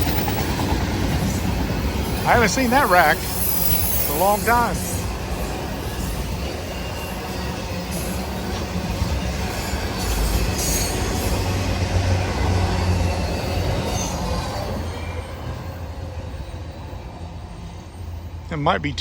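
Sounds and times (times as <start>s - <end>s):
train wheels squealing: 0.0s - 18.4s
freight train rumbling past: 0.0s - 19.0s.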